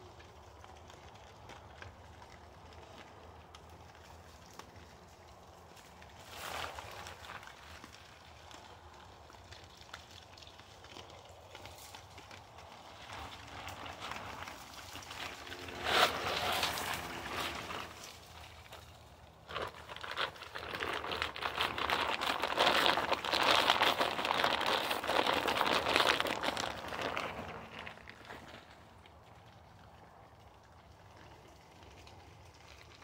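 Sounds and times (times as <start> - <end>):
rustling and crinkling: 0.0 - 33.0.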